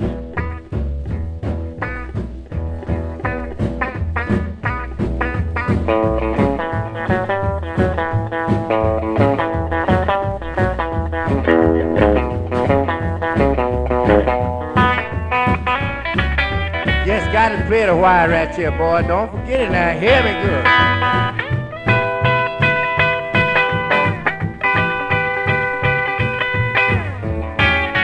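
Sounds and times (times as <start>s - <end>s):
blues swing guitar: 0.0s - 28.0s
steady bass beat: 0.0s - 28.0s.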